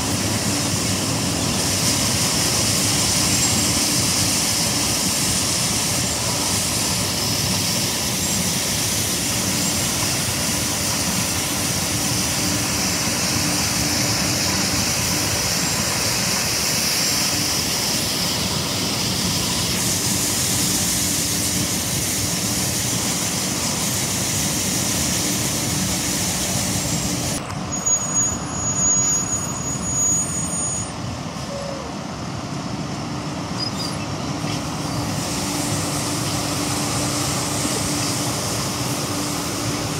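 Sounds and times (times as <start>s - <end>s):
broom brushing pavement: 0.0s - 27.4s, 34.6s - 39.9s
street sweeper engine and blower: 0.0s - 39.9s.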